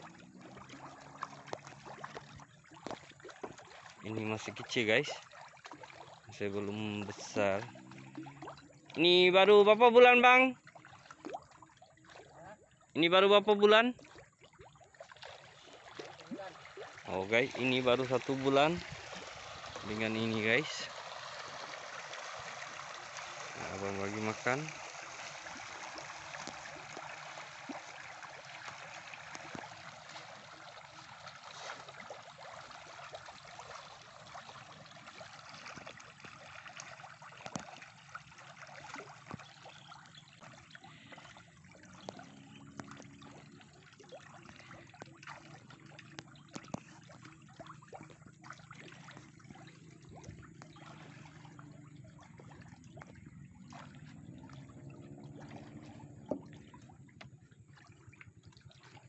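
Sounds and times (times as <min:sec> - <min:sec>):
fish splashing at water surface: 0:00.0 - 0:09.0, 0:14.0 - 0:57.1.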